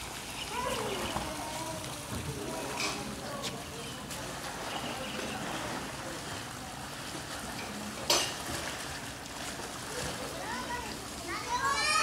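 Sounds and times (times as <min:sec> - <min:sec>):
outdoor noise: 0:00.0 - 0:12.0
water washing: 0:00.0 - 0:12.0.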